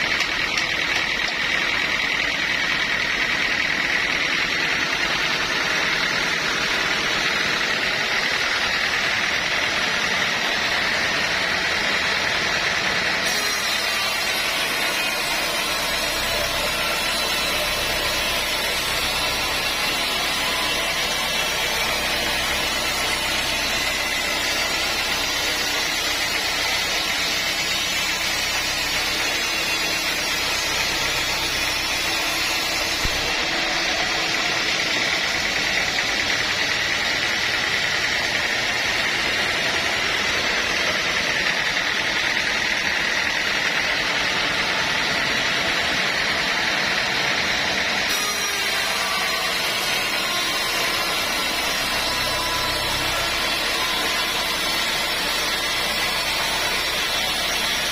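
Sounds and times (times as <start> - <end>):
sawmill saw running with whine: 0.0 - 57.9.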